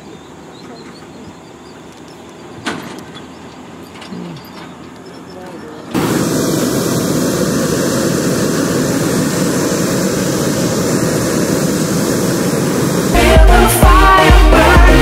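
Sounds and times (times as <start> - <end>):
propane burner roaring: 0.0 - 15.0.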